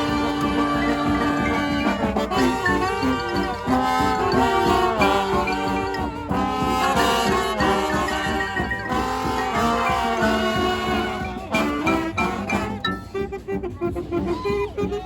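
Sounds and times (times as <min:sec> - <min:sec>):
brass band playing a dirge: 0:00.0 - 0:15.0.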